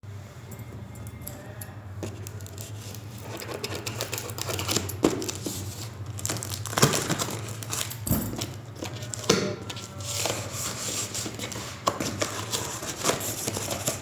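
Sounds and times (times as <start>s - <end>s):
packaging crinkling and tearing: 2.2s - 14.0s.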